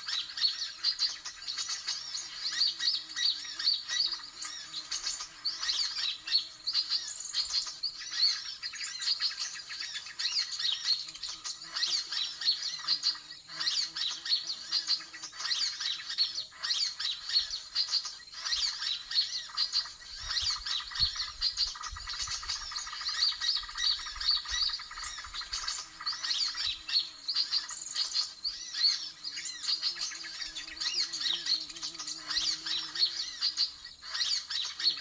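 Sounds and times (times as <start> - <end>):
small birds chirping and squawking: 0.0 - 35.0.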